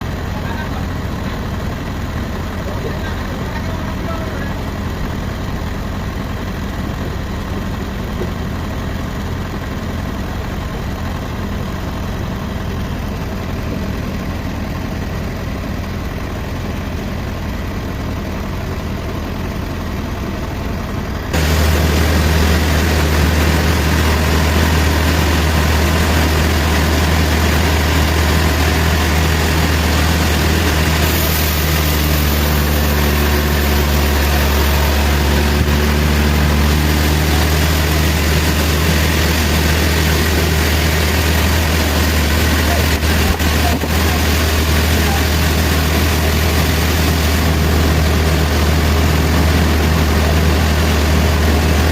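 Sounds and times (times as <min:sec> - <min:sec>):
heavy engine running: 0:00.0 - 0:51.9.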